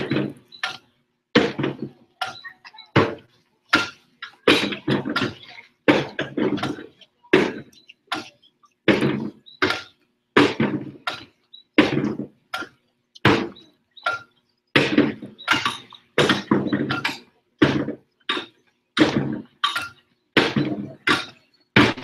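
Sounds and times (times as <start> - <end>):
wheelbarrows struck as percussion: 0.0 - 22.0.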